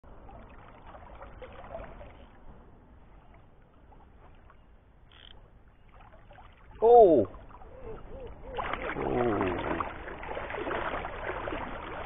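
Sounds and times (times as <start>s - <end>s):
faint river water flowing: 0.0s - 12.0s.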